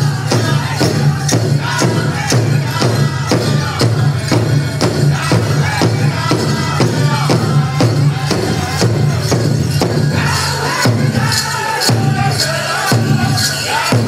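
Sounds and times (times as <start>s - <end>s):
big drum beating: 0.0s - 14.0s
group singing: 0.0s - 14.0s.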